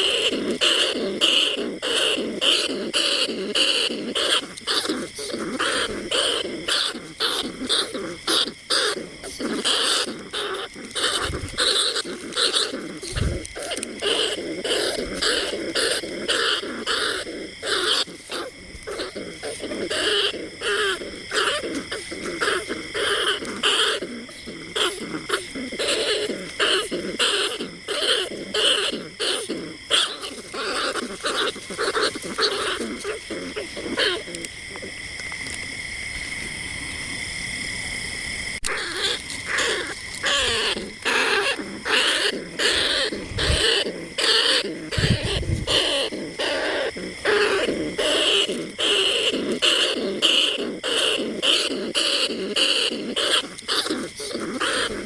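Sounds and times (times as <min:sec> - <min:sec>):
rat squeaking chirps: 0:00.0 - 0:34.5, 0:38.6 - 0:55.0.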